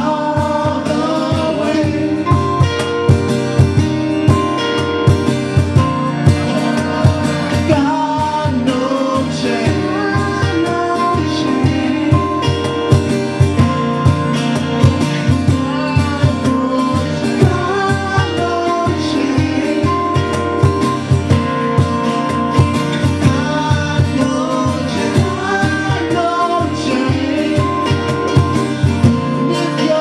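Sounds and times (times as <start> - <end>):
bending melody line: 0.0 - 30.0
drums beat: 0.0 - 30.0
guitar chords: 0.0 - 30.0.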